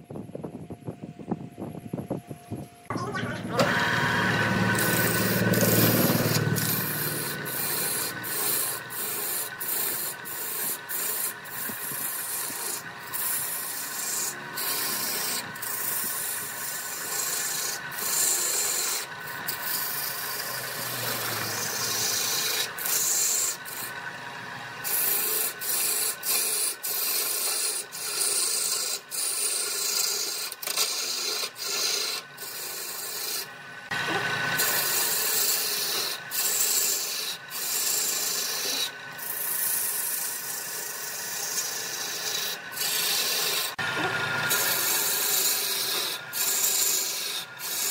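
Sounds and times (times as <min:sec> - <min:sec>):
lathe tool scraping wood: 0:03.0 - 0:47.9.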